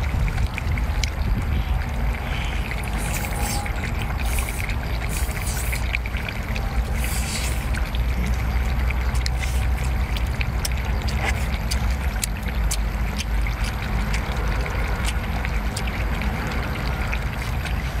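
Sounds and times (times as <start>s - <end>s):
wet chewing clicks: 0.0s - 18.0s
wind rumbling on microphone: 0.0s - 18.0s.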